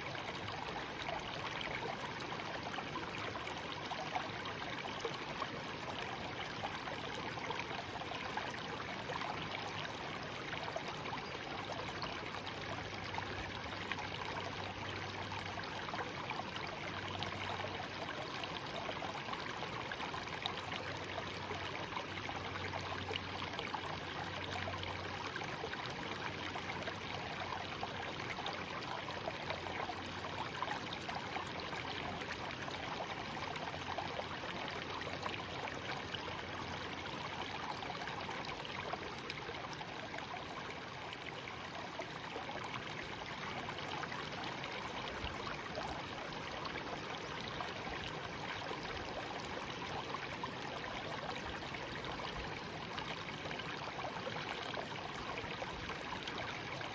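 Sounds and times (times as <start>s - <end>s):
stream babbling over rocks: 0.0s - 56.9s.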